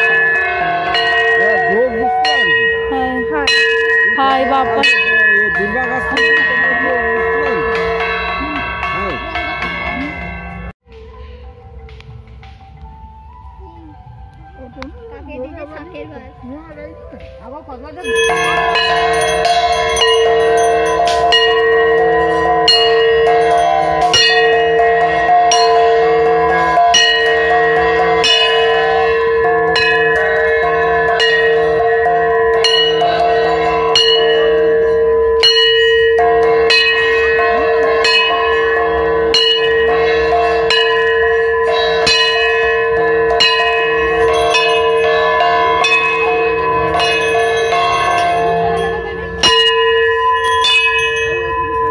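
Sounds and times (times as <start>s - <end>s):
bell ringing: 0.0s - 11.9s, 14.6s - 51.9s.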